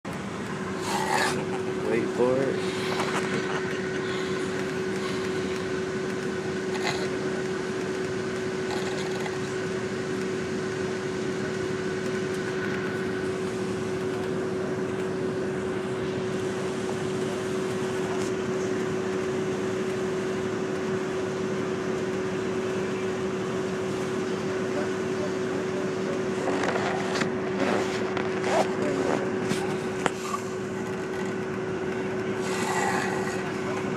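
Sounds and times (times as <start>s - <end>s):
bus engine and ventilation hum: 0.0s - 33.9s.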